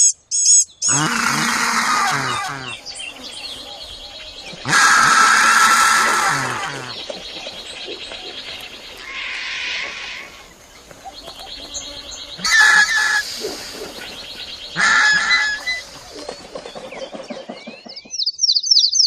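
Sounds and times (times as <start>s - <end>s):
bird honking calls: 0.8s - 16.5s.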